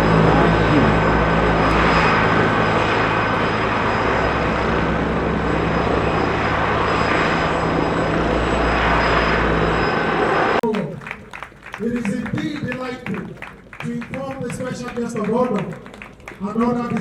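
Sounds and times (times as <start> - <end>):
aircraft turbine engines whining: 0.0 - 17.0.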